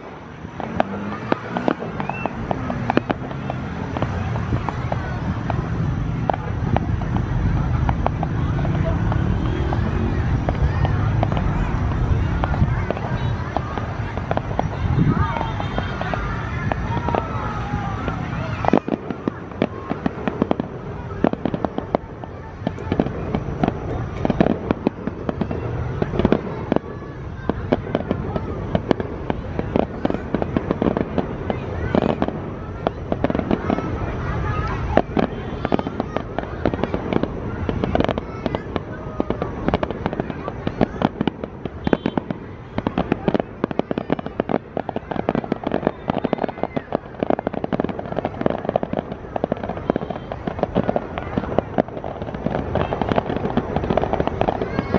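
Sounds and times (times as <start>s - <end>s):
fireworks bangs and cracks: 0.0s - 54.9s.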